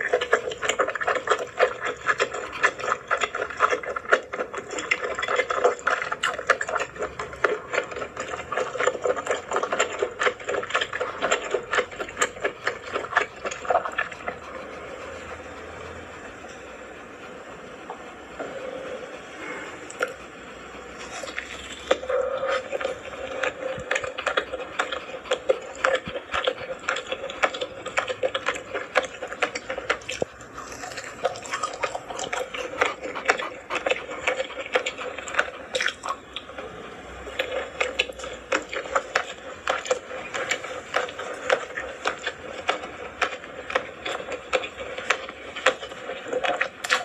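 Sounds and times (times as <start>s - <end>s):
person chewing with clicks: 0.0s - 14.8s, 19.8s - 20.2s, 20.9s - 47.0s.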